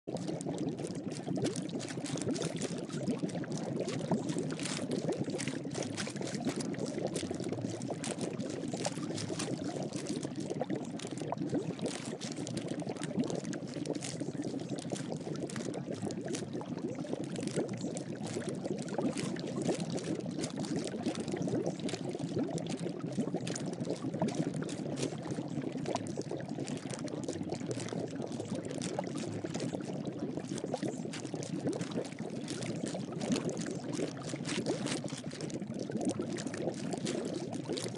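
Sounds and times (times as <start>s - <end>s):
running water with fine crackle: 0.0s - 37.9s.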